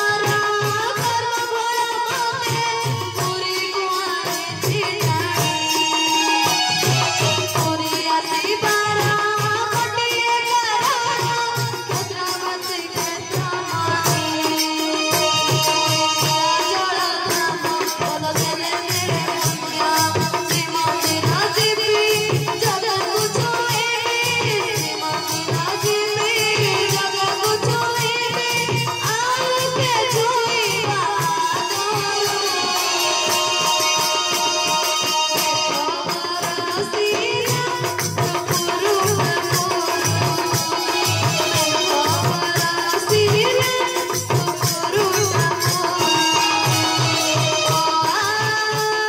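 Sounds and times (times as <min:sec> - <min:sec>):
boy singing into a microphone: 0:00.0 - 0:49.0
rattling percussion: 0:00.0 - 0:49.0.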